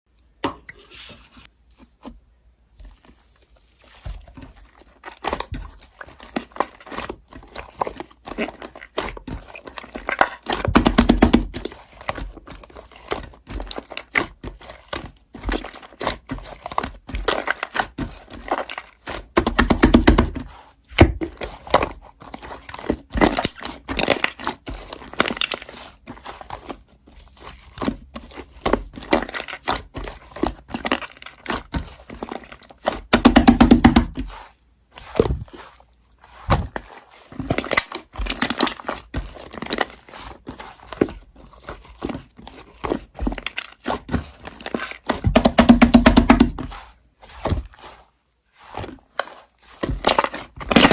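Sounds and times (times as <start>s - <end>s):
slime squishing with sticky pops: 1.9s - 50.9s.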